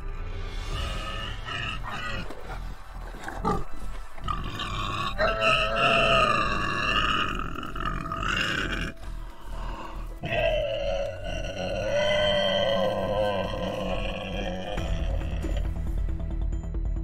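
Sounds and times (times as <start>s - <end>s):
background music: 0.0s - 17.0s
wild dogs crying and growling: 0.6s - 15.7s.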